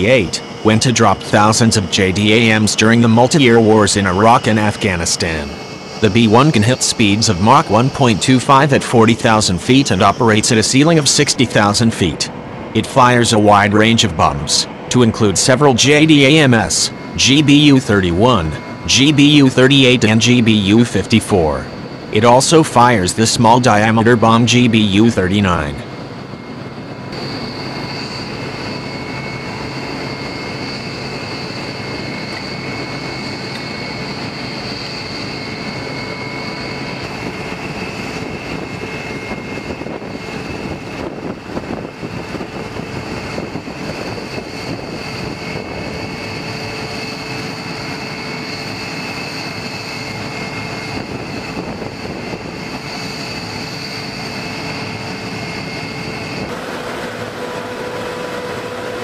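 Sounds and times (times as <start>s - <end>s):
jet turbine whine and roar: 0.0s - 59.0s.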